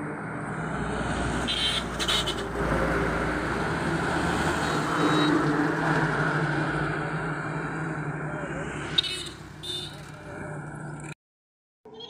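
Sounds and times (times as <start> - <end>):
truck passing by: 0.0 - 11.2.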